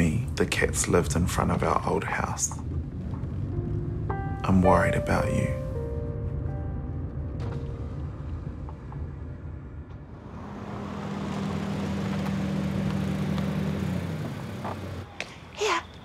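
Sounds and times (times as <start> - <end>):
car engine hum: 0.0 - 16.0
tyre road noise: 0.0 - 16.0.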